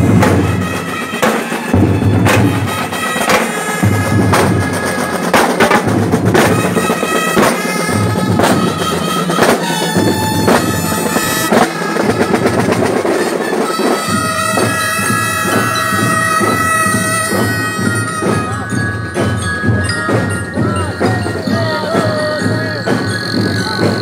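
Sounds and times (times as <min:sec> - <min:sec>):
held melody notes: 0:00.0 - 0:24.0
snare and bass drums: 0:00.0 - 0:24.0.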